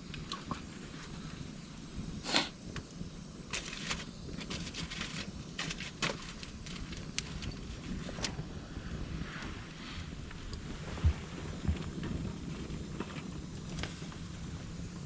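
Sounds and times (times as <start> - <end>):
campfire crackling: 0.0 - 15.0
low rumble of wind: 0.0 - 15.0.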